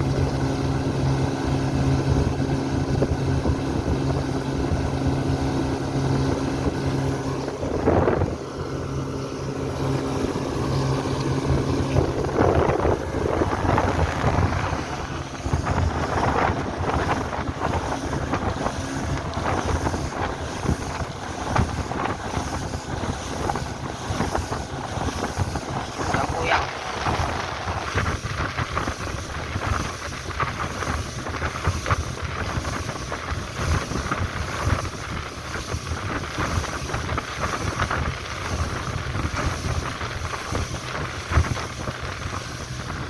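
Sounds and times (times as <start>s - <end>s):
boat motor humming: 0.0s - 43.0s
wind buffeting microphone: 0.0s - 43.0s.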